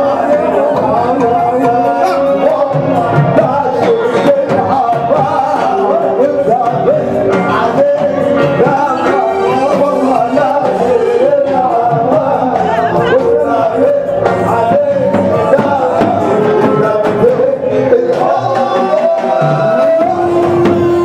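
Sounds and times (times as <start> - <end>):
band playing dance music: 0.0 - 21.0
man singing: 0.0 - 21.0.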